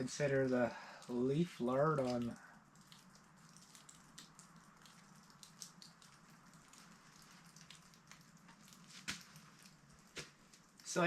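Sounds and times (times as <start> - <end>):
small ticks and clicks: 2.0 - 11.0.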